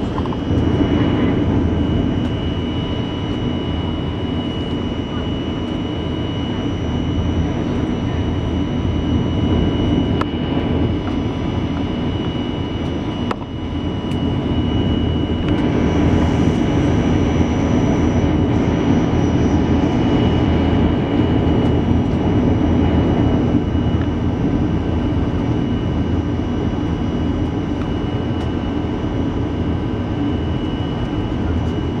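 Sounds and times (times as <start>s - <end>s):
high fan whine: 0.0s - 32.0s
jet engine and airflow noise in cabin: 0.0s - 32.0s.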